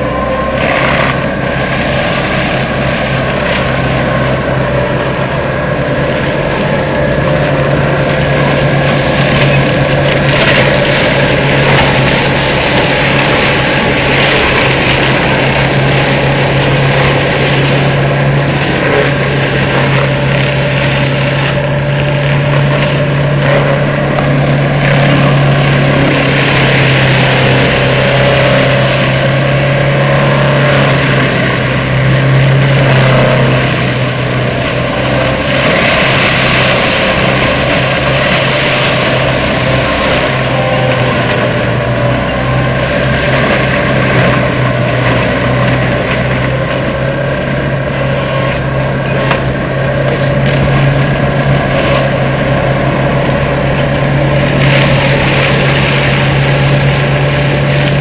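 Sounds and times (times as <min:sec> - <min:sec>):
low engine drone: 0:00.0 - 0:58.0
mulcher rushing noise: 0:00.0 - 0:58.0.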